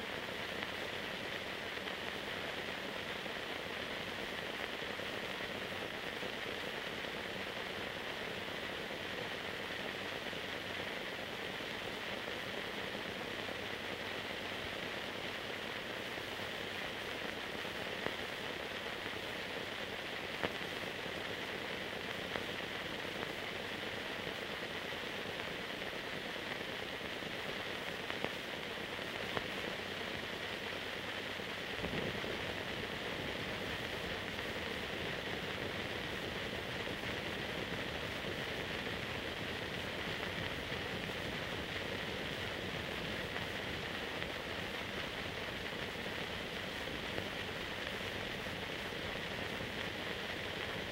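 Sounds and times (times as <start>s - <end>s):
film hiss: 0.0s - 50.9s.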